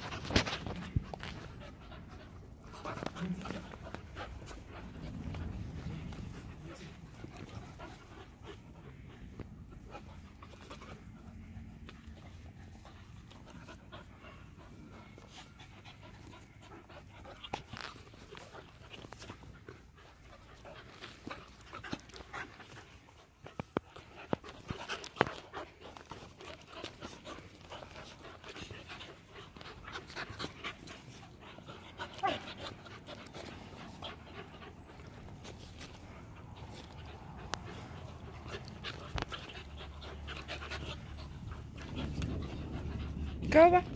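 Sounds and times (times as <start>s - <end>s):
puppies panting: 0.0s - 43.9s.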